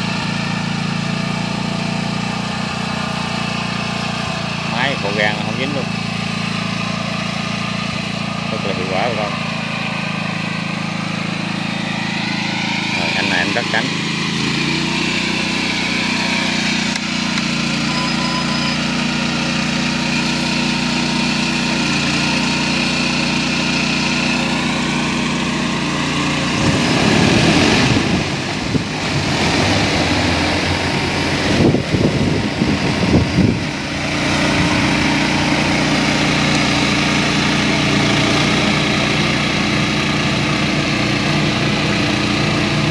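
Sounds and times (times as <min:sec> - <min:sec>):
drone rotors humming: 0:00.0 - 0:42.9
rotor wash buffeting microphone: 0:00.0 - 0:42.9.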